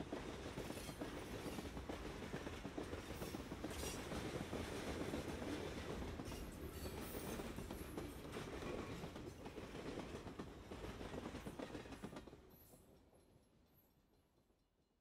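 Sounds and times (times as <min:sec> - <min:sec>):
train rumbling on track: 0:00.0 - 0:14.2.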